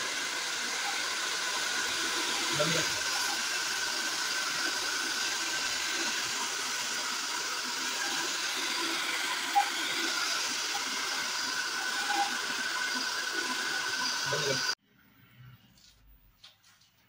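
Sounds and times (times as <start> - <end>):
hair dryer blowing: 0.0 - 14.8.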